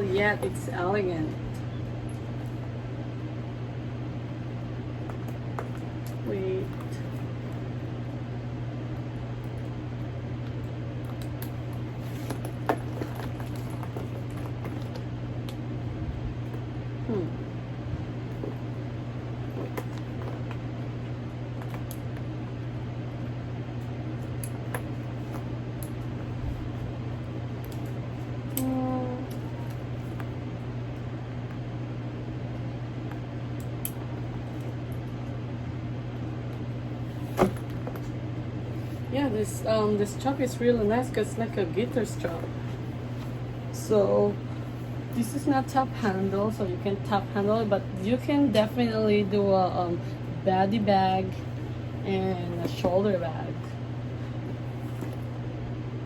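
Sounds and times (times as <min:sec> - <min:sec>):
low background hum: 0:00.0 - 0:56.0.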